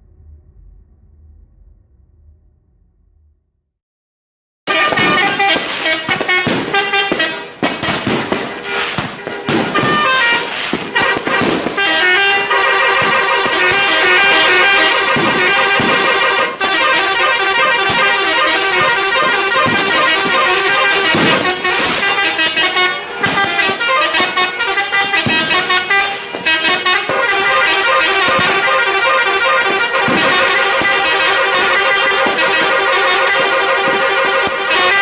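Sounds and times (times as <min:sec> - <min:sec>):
multi-tone bus horn melody: 0:04.7 - 0:35.0.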